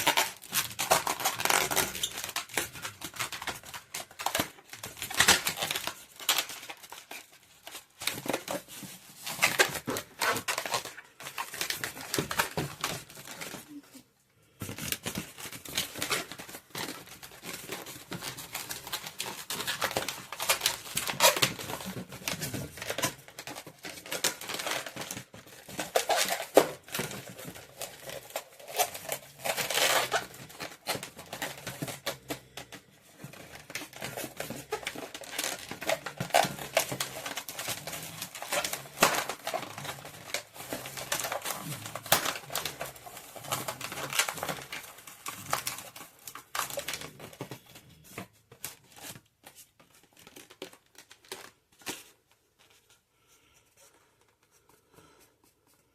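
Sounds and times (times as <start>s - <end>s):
balloons rubbing and squeaking: 0.0s - 14.1s, 14.7s - 48.2s.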